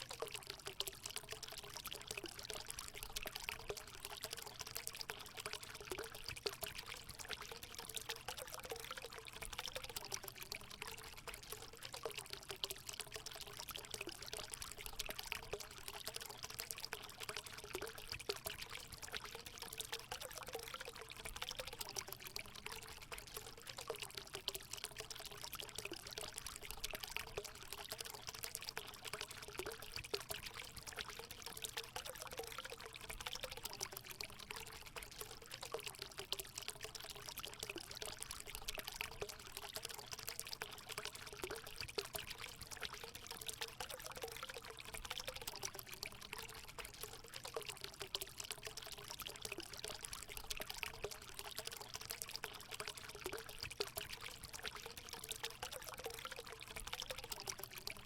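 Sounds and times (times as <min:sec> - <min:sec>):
water gurgling: 0:00.0 - 0:58.0
water pouring into pool: 0:00.0 - 0:58.0.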